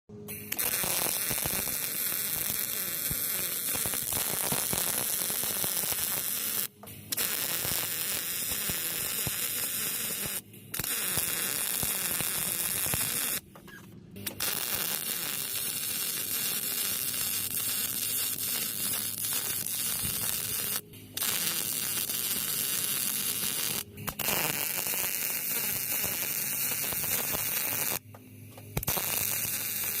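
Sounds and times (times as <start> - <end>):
welding arc crackling: 0.3 - 13.4, 14.2 - 30.0.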